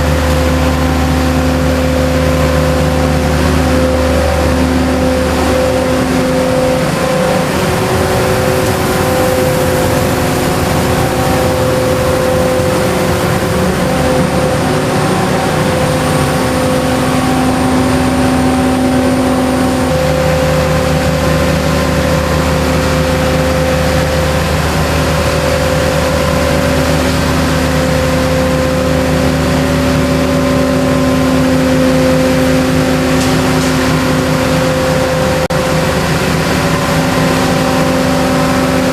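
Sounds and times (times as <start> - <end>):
engine hum: 0.0 - 38.9
rushing suction and washing noise: 0.0 - 38.9.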